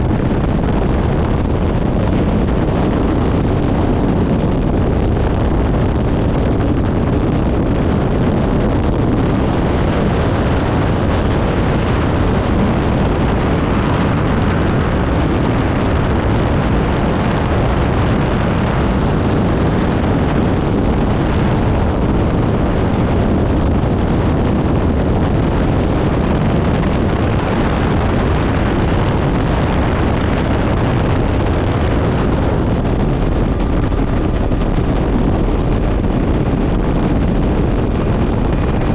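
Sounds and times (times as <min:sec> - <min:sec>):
helicopter rotor and engine noise: 0:00.0 - 0:38.9
wind on microphone: 0:00.0 - 0:38.9.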